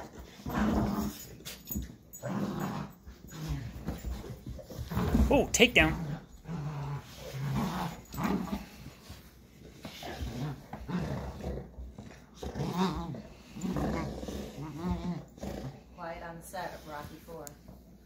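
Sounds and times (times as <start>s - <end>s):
puppy growling: 0.0s - 1.5s, 2.1s - 16.0s.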